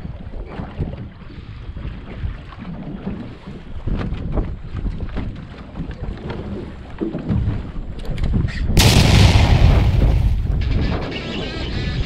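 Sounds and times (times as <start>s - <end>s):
rush of wind and water: 0.0s - 12.0s
wind buffeting microphone: 0.0s - 12.0s
hull thumping on waves: 1.9s - 12.0s.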